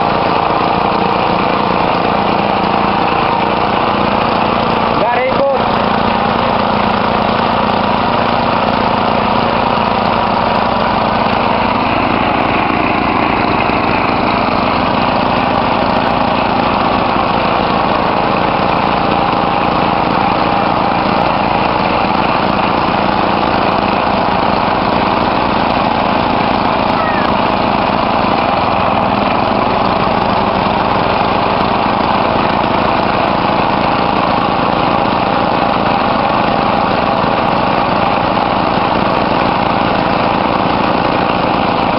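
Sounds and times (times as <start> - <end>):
small engine running steadily: 0.0 - 41.9.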